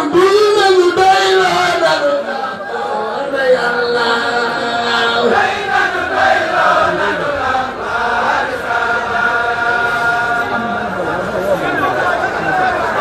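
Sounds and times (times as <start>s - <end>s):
group of voices chanting: 0.7s - 13.0s.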